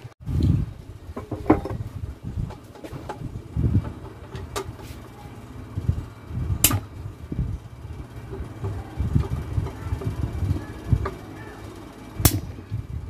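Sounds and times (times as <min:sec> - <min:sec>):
low uneven rumble: 0:00.0 - 0:13.0.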